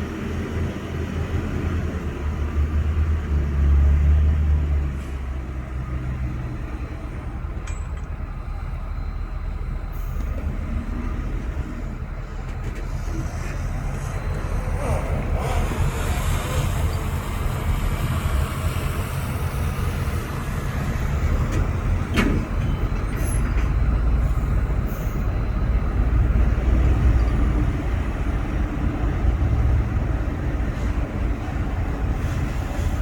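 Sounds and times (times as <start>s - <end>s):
heavy diesel machinery rumble: 0.0s - 33.0s.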